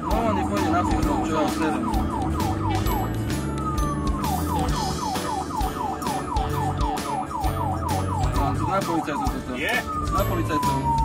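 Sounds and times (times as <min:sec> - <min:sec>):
ambulance siren yelping: 0:00.0 - 0:11.0.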